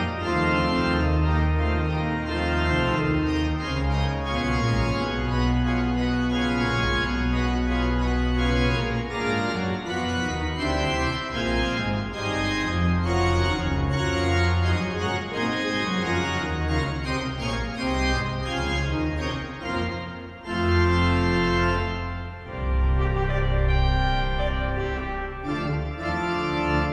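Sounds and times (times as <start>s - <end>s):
deep organ pedal notes: 0.0s - 26.9s
pipe organ playing loud chords: 0.0s - 26.9s.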